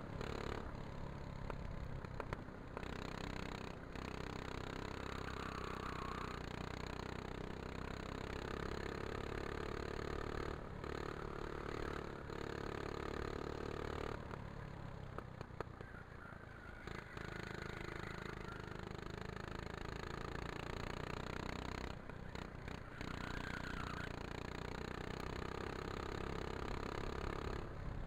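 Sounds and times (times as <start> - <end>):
go-kart engine running: 0.0 - 28.0.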